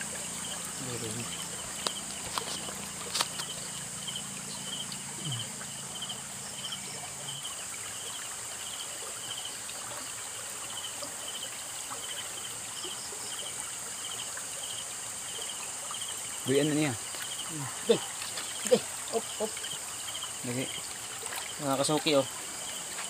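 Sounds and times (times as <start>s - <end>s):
cricket chirping: 0.0s - 23.0s
high insect buzz: 0.0s - 23.0s
trickling creek water: 0.0s - 23.0s.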